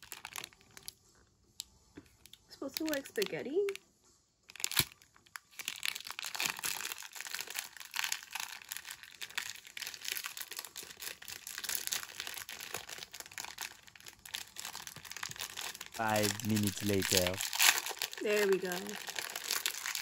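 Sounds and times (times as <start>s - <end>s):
plastic wrapper crinkling: 0.0s - 1.0s, 2.1s - 3.8s, 4.5s - 20.0s.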